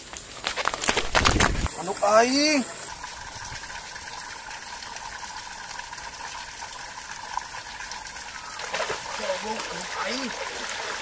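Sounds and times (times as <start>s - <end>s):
running water rushing: 1.2s - 11.0s.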